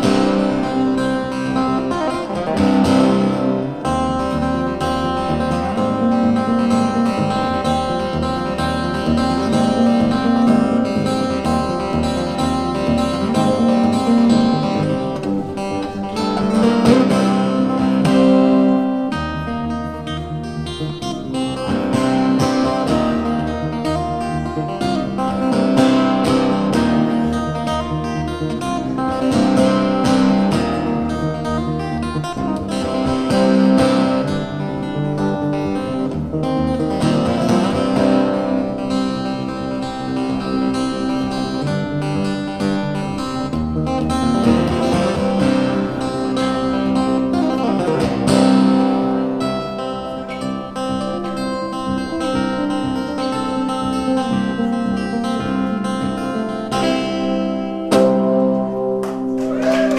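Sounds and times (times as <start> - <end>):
fingerstyle acoustic guitar: 0.0 - 59.6.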